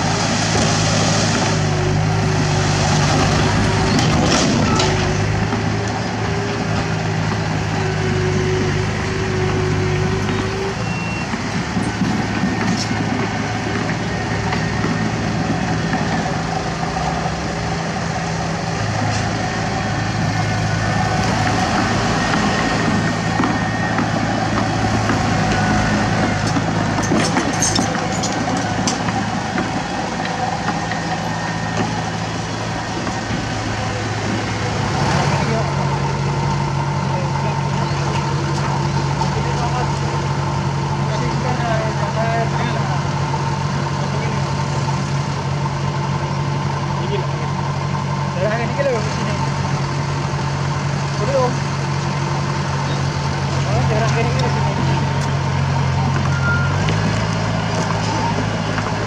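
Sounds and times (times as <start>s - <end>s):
bulldozer engine: 0.0s - 59.0s
dump truck diesel engine: 0.0s - 59.0s.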